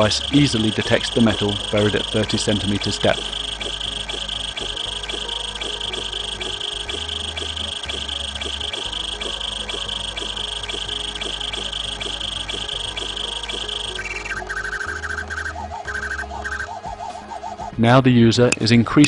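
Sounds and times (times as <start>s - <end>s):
short low uneven beeps: 0.0s - 16.8s
metal detector high-pitched tone: 0.0s - 17.3s
metal detector rapid ticking: 0.0s - 17.6s.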